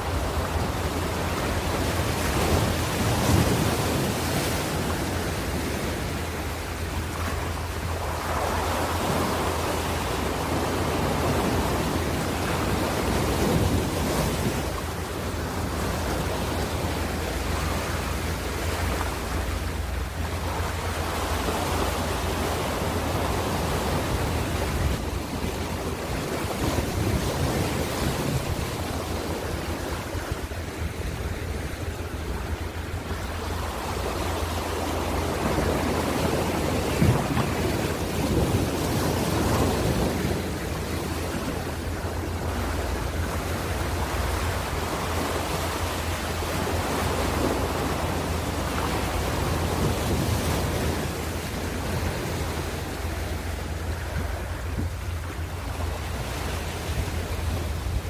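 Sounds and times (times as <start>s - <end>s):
ocean waves washing on shore: 0.0s - 58.0s.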